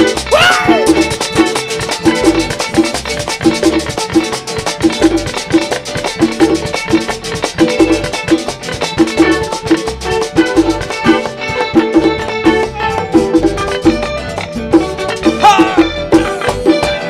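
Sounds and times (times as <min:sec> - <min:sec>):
drums steady beat: 0:00.0 - 0:14.1, 0:14.7 - 0:17.0
bass guitar: 0:00.0 - 0:17.0
guitars picking: 0:00.0 - 0:17.0.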